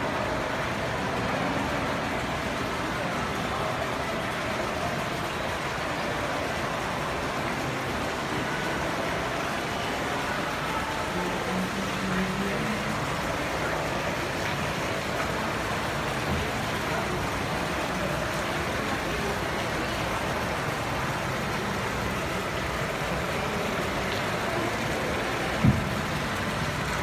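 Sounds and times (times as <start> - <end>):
distant crowd voices: 0.0 - 27.0.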